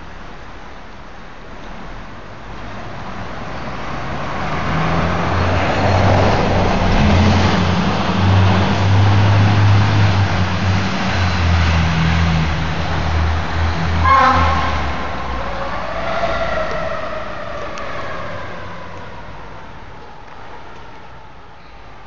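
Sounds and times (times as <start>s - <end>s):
fire truck engine rumble: 0.0s - 22.0s.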